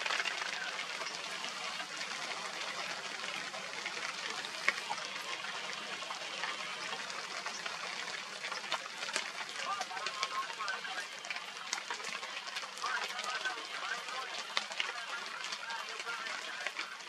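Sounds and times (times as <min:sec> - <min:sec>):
crackly background hiss: 0:00.0 - 0:17.0.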